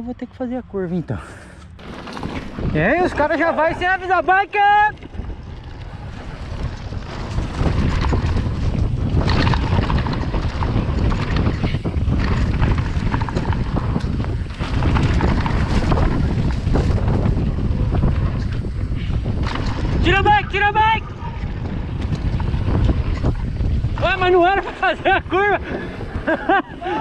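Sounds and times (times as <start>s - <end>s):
wind buffeting microphone: 0.0s - 27.0s
mountain bike rattling and knocking: 1.8s - 27.0s.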